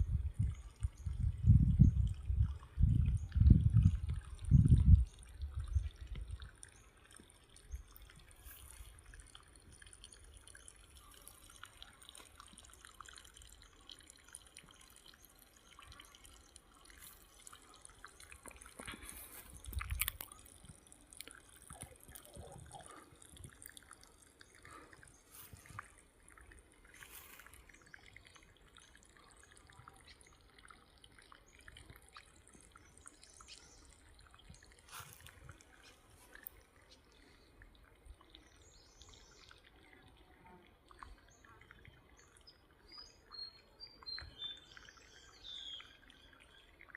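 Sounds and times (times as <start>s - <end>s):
water trickling and dripping: 0.0s - 46.9s.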